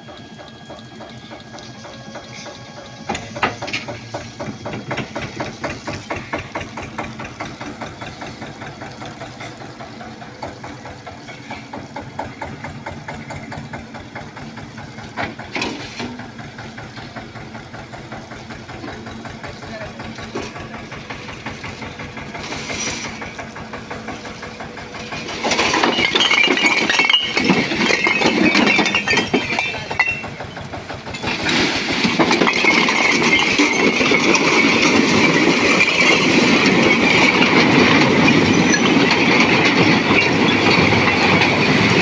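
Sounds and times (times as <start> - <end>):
tractor diesel engine chugging: 0.0 - 42.0.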